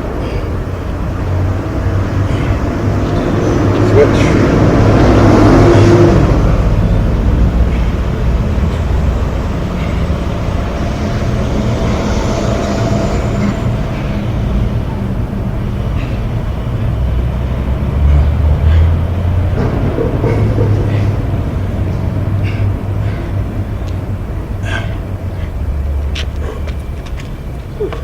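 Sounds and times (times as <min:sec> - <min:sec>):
low rumble: 0:00.0 - 0:26.2.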